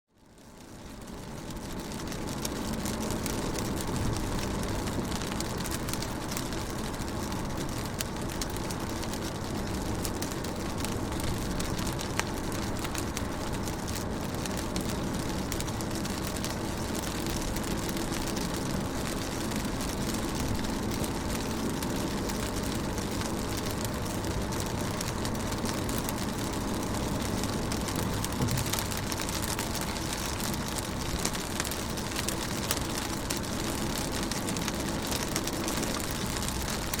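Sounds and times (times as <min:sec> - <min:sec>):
raindrops ticking on car windows: 0:00.2 - 0:37.0
road and engine rumble: 0:00.3 - 0:37.0.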